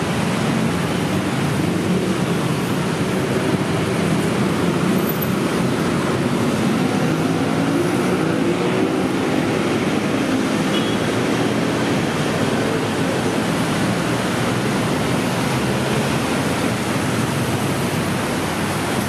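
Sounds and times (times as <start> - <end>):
busy road traffic: 0.0 - 19.0.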